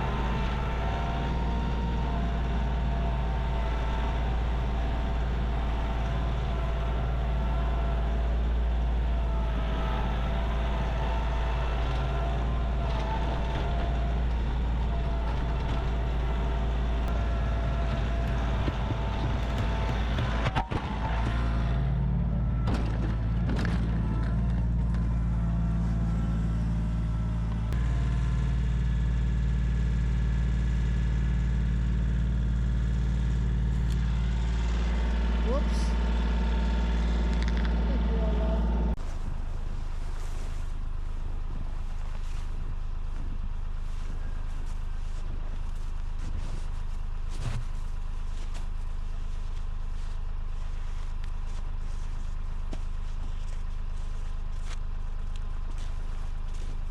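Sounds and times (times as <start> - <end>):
engine humming: 0.0 - 56.9.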